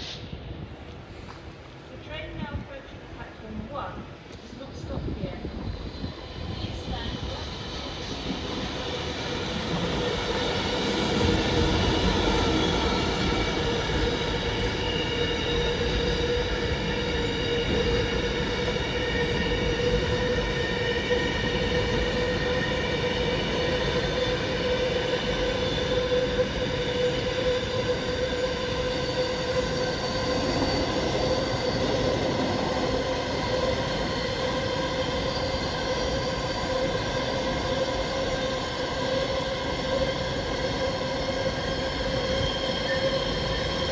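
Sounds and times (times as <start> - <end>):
train rumbling along track: 0.0 - 43.9.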